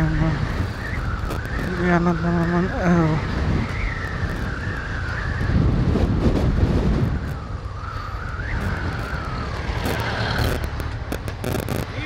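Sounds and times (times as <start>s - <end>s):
motorcycle engine rumble: 0.0s - 12.0s
wavering whine: 0.0s - 12.0s
wind buffeting microphone: 0.0s - 12.0s.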